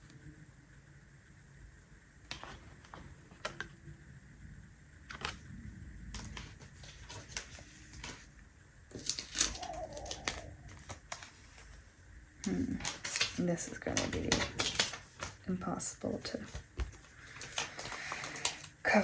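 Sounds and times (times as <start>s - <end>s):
paper handling noises: 2.2s - 3.8s, 5.0s - 19.0s.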